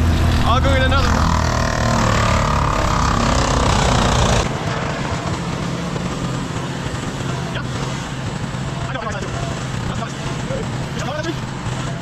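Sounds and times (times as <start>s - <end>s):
machine engine running: 0.0s - 12.0s.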